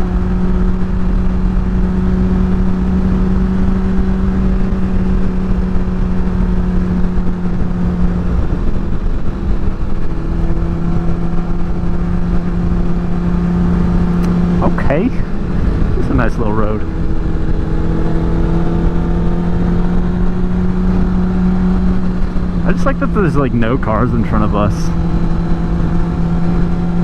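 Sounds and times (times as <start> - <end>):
motorcycle engine cruising: 0.0 - 27.0
wind rush on microphone: 0.0 - 27.0.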